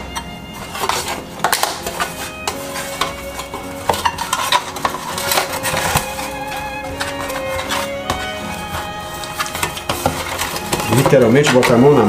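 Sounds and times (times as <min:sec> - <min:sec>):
plastic spatula scraping metal pan: 0:00.0 - 0:12.0.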